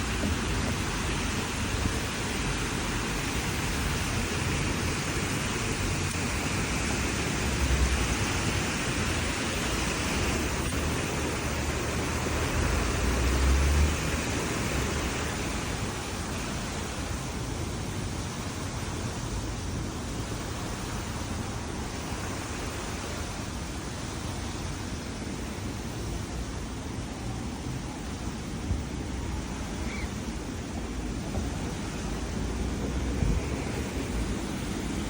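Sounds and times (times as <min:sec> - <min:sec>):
steady outdoor hiss: 0:00.0 - 0:35.0.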